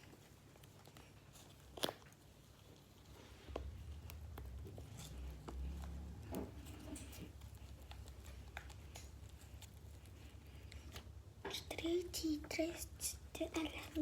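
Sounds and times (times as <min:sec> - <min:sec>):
low rumble of handling: 0:00.0 - 0:14.0
slime being stirred: 0:00.0 - 0:14.0.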